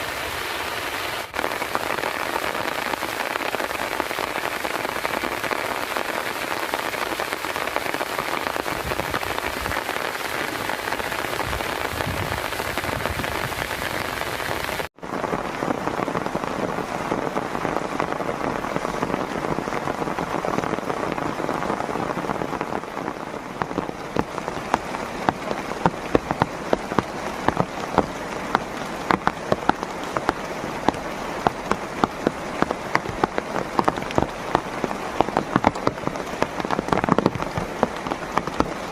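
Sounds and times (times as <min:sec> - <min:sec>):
heavy rain hissing: 0:00.0 - 0:38.9
raindrops tapping on a surface: 0:01.3 - 0:14.2, 0:14.8 - 0:38.9.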